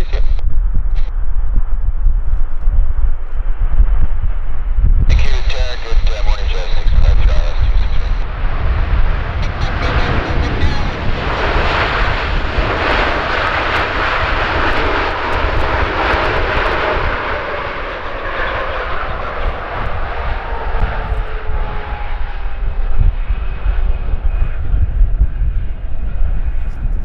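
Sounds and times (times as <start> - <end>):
jet engine whine: 0.0 - 27.0
jet engines rushing: 0.0 - 27.0.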